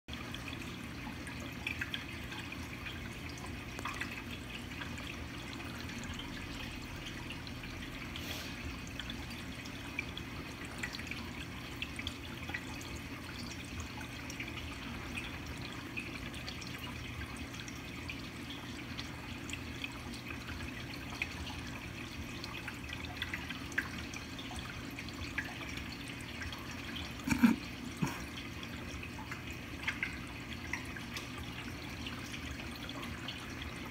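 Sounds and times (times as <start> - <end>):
low pump hum: 0.1 - 33.9
small water drips: 0.1 - 33.9
water trickling: 0.1 - 33.9.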